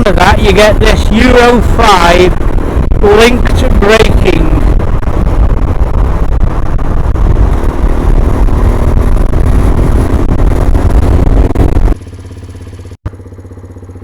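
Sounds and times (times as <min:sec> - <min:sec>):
wind buffeting microphone: 0:00.0 - 0:12.0
motorcycle engine running: 0:00.0 - 0:14.0.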